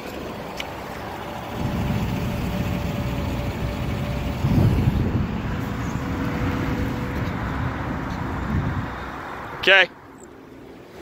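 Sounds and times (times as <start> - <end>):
vehicle engine rumbling: 0.0 - 10.9.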